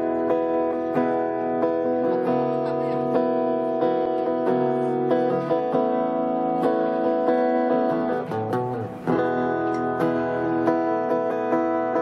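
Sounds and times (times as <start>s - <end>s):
acoustic guitars strumming chords: 0.0s - 12.0s.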